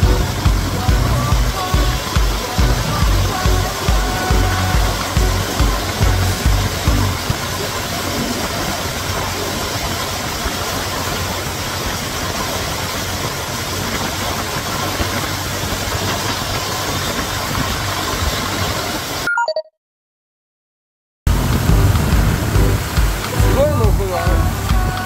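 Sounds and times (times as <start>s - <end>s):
steady rushing hiss: 0.0s - 19.2s, 21.3s - 25.0s.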